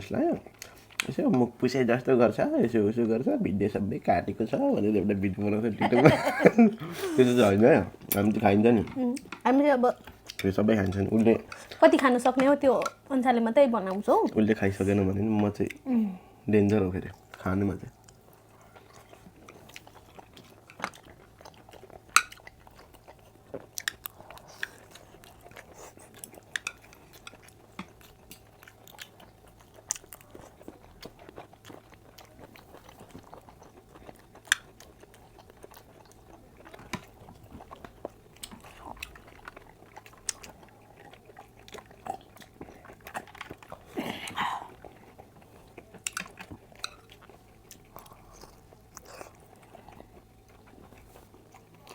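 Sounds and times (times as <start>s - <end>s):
food crunching: 0.1s - 15.9s, 16.5s - 51.9s
chewing with wet mouth clicks: 0.4s - 1.5s, 6.8s - 13.1s, 16.6s - 51.9s.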